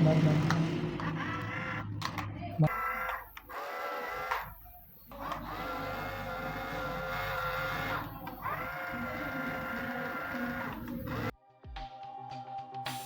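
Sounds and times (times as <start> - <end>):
small motor whining: 0.0 - 11.3.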